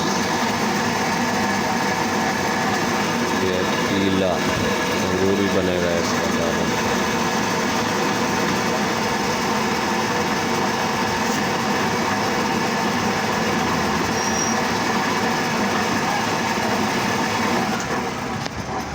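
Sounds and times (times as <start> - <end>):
crusher machine din: 0.0 - 18.9
steady humming tones: 0.0 - 18.9.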